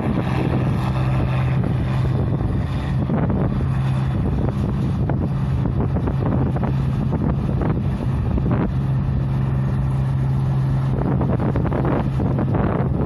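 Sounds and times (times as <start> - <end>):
harvester engine humming: 0.0 - 13.0
wind buffeting microphone: 0.0 - 13.0.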